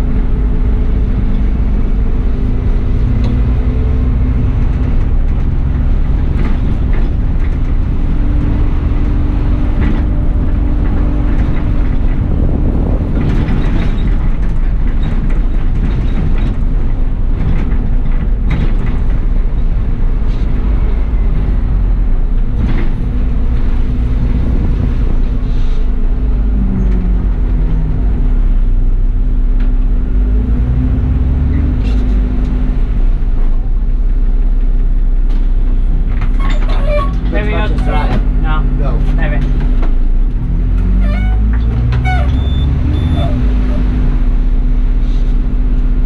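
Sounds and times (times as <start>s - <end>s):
bus engine droning: 0.0s - 46.0s
bodywork rattles and knocks: 0.2s - 44.2s.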